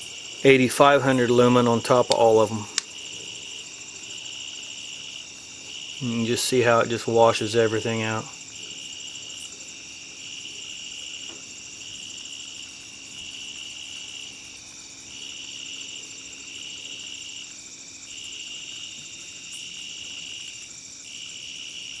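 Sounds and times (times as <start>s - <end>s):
crickets and insects chirping: 0.0s - 22.0s
high insect trill: 0.0s - 22.0s.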